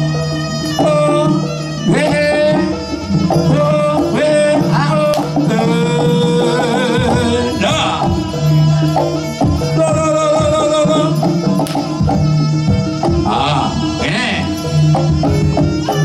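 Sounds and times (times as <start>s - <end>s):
music backing with drum hits: 0.0s - 16.0s
wavering melody line: 0.0s - 16.0s.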